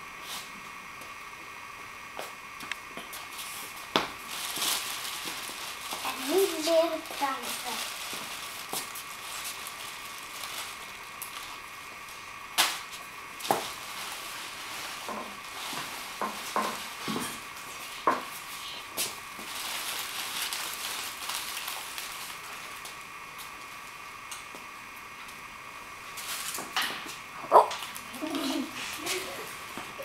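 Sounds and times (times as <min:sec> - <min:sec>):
steady hiss: 0:00.0 - 0:30.0
props rustling and crinkling: 0:02.6 - 0:23.9, 0:26.0 - 0:30.0.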